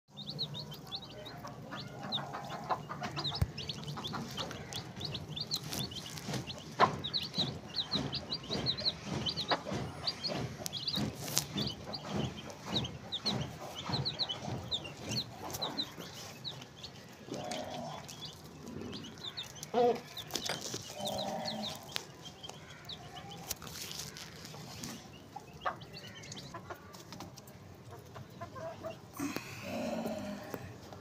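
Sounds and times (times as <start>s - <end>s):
chickens clucking: 0.1s - 31.0s
chicks peeping: 0.1s - 31.0s.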